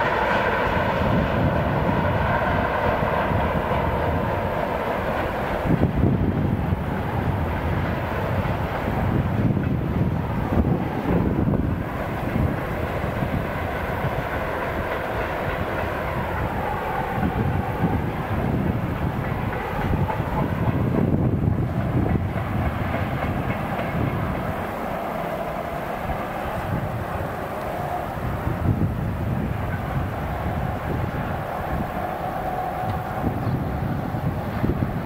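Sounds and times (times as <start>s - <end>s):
freight train wheels rumbling on rails: 0.0s - 35.0s.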